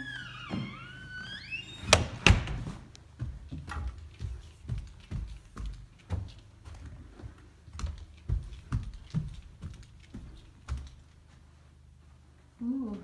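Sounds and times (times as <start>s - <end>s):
footsteps on carpeted stairs: 0.4s - 12.4s.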